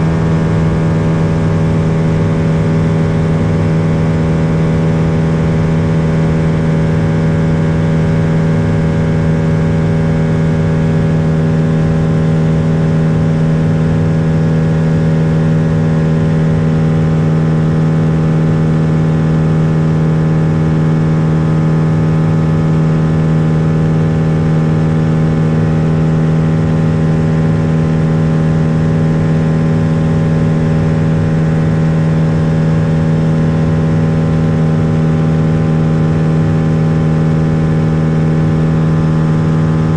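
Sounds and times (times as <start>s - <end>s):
airplane engine droning: 0.0s - 39.9s.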